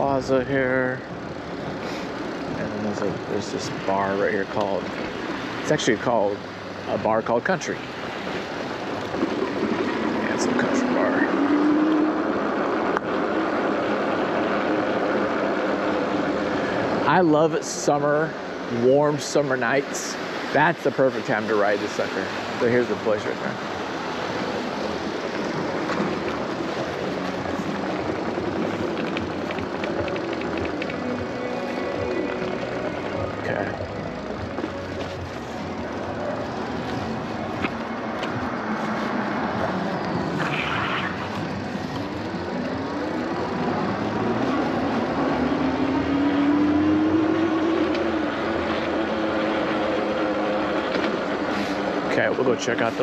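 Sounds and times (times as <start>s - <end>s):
wind and tyre noise: 0.0s - 53.0s.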